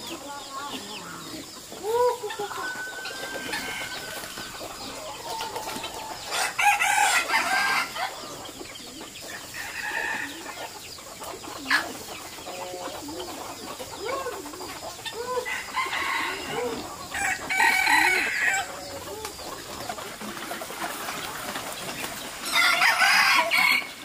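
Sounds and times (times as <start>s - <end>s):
poultry clucking: 0.0s - 24.0s.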